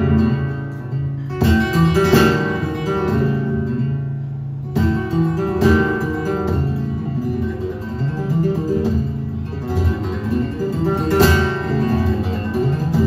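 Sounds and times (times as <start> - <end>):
flamenco guitar picking: 0.0 - 13.0.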